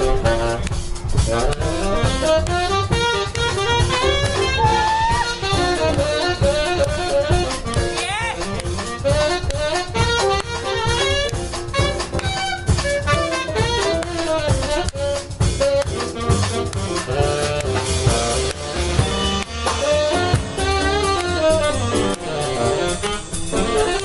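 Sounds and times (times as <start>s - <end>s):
drum kit: 0.0s - 24.0s
saxophones: 0.0s - 24.0s.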